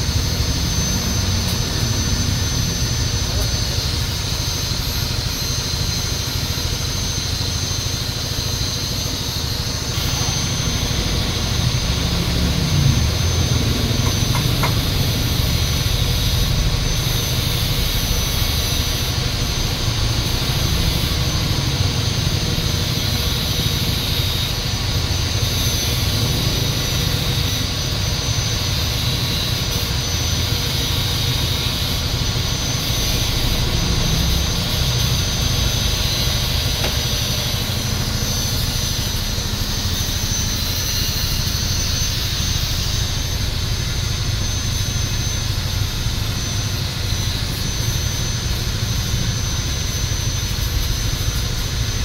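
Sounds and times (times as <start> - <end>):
machine drone with high whine: 0.0 - 52.0.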